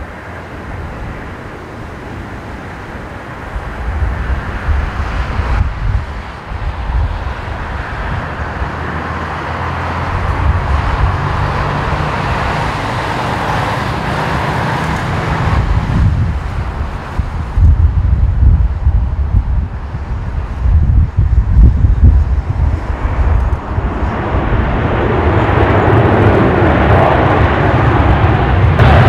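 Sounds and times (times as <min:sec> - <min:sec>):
jet airliner rumble and hiss: 0:00.0 - 0:29.0.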